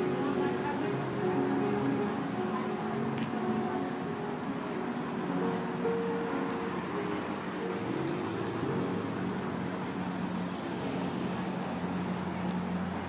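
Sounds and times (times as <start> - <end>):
passing street traffic: 0.0 - 13.0
upright piano chords: 0.0 - 13.0.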